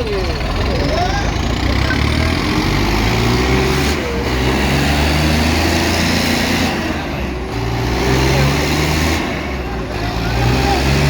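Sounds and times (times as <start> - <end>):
diesel tractor engines under load: 0.0 - 11.0.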